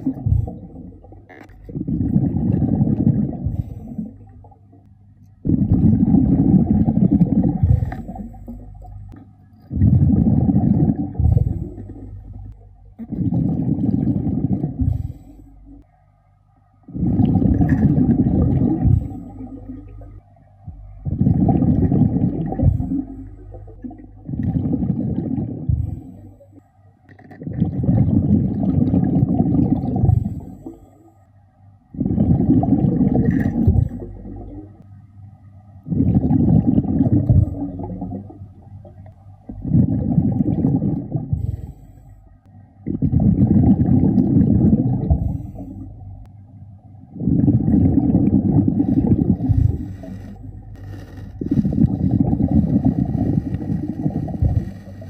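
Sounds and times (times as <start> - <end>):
exhaled bubbles from diver regulator: 0.0 - 15.9, 16.8 - 31.0, 31.9 - 34.8, 35.8 - 46.3, 47.1 - 55.0.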